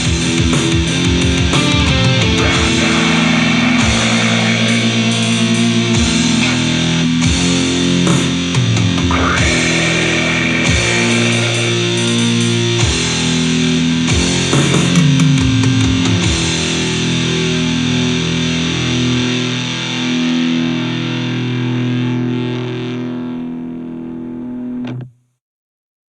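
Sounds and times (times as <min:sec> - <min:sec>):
drums: 0:00.0 - 0:22.4
bass guitar: 0:00.0 - 0:25.2
distorted electric guitar: 0:00.0 - 0:25.2.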